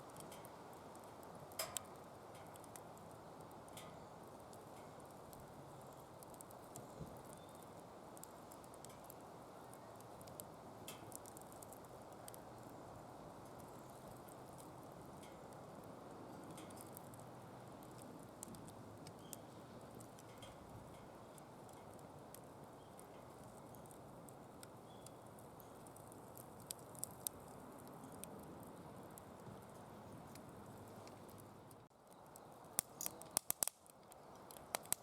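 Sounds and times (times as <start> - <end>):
firewood crackling and popping: 0.0 - 35.0.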